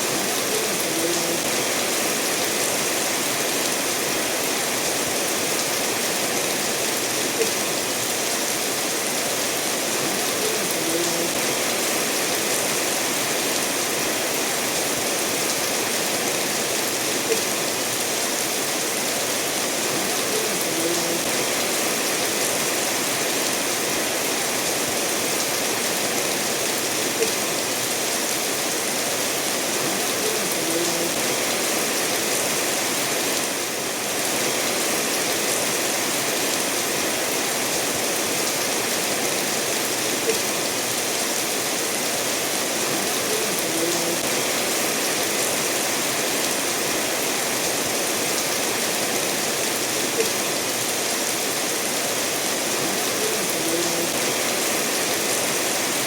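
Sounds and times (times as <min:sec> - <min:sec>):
rain falling: 0:00.0 - 0:56.0
stream flowing over stones: 0:00.0 - 0:56.0.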